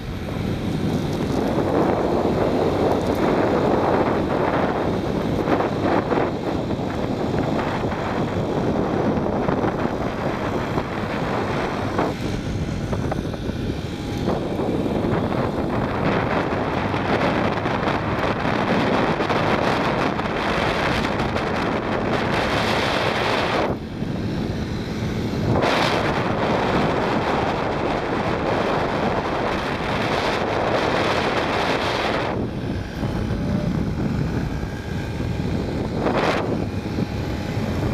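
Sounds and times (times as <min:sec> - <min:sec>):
moped engines running: 0:00.0 - 0:37.9
wind rush on microphone: 0:00.0 - 0:37.9.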